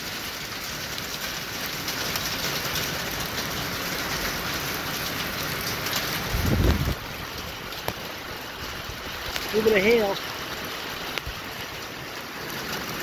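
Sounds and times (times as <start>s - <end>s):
hail and heavy rain pelting: 0.0s - 13.0s.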